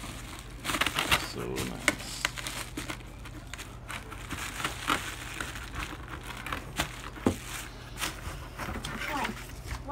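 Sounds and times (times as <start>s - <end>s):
bubble wrap crinkling: 0.0s - 9.9s.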